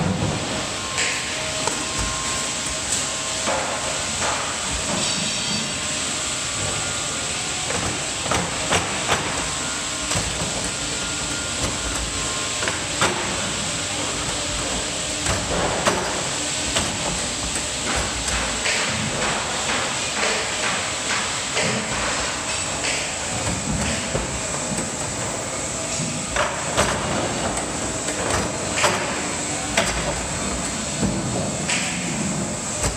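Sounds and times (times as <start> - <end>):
mechanical hiss of hooping machine: 0.0 - 32.9.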